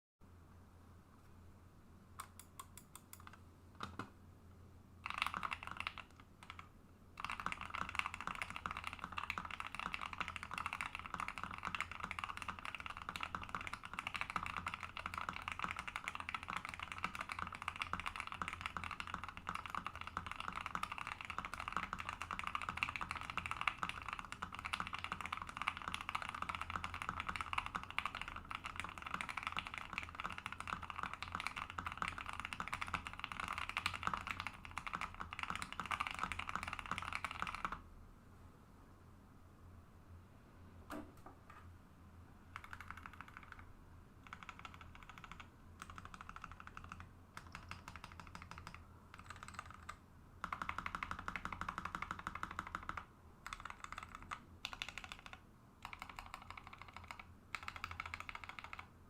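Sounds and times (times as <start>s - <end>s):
mechanical keyboard typing: 5.0s - 37.8s, 42.5s - 58.9s.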